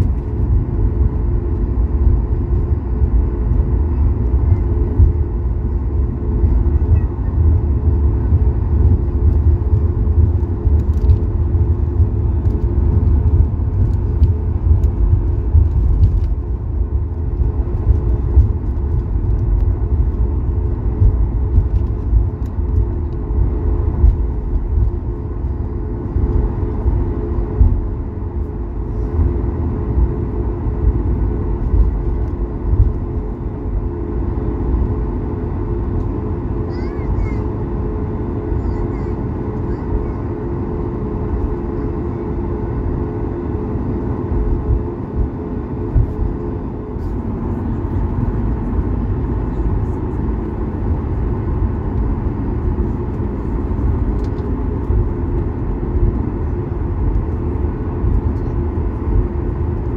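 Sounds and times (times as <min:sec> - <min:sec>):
jet engine hum: 0:00.0 - 0:59.9
low rumble of wheels: 0:00.0 - 0:59.9.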